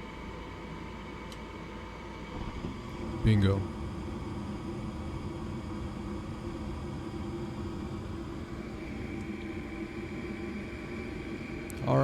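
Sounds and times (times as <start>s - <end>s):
furnace motor humming: 0.0s - 12.0s
faint high whine: 2.0s - 12.0s.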